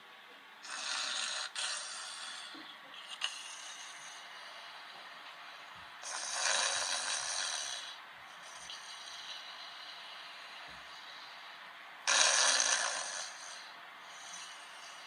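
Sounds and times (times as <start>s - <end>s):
quiet breathing: 0.0s - 15.0s
man snoring: 0.6s - 4.8s, 6.0s - 11.4s, 12.0s - 15.0s.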